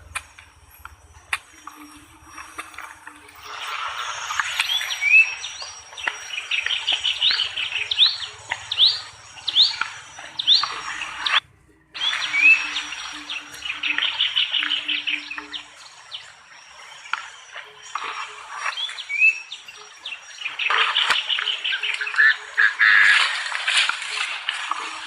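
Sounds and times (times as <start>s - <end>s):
birds chirping in chorus: 0.0s - 25.0s.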